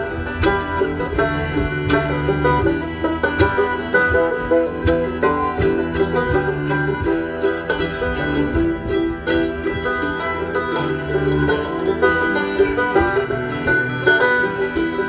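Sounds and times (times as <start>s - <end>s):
acoustic guitar: 0.0s - 15.0s
banjo: 0.0s - 15.0s
fiddle: 0.0s - 15.0s
mandolin: 0.0s - 15.0s
upright bass: 0.0s - 15.0s.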